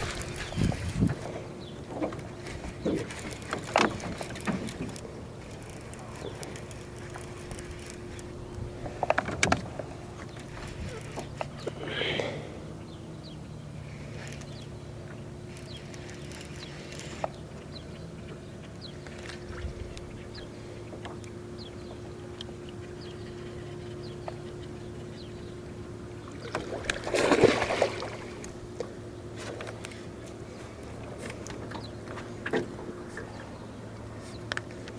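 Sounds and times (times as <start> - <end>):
small birds chirping: 0.0 - 8.6, 9.8 - 26.6, 29.1 - 34.9
boat motor humming: 0.0 - 34.9.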